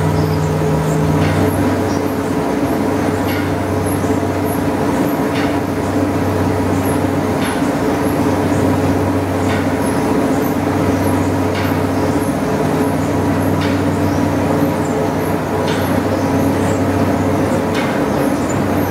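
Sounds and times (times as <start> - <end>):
mill machinery humming: 0.0 - 18.9.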